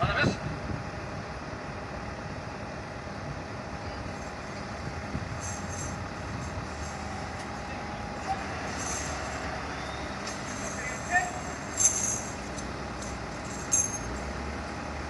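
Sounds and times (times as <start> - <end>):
emergency vehicle engine rumble: 0.0 - 15.0.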